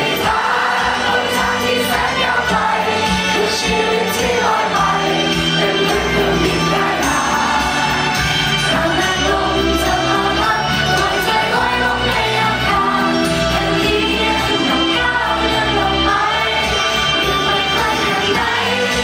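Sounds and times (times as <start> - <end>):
women singing into microphones: 0.0 - 8.0, 8.6 - 19.0
pop backing track: 0.0 - 19.0.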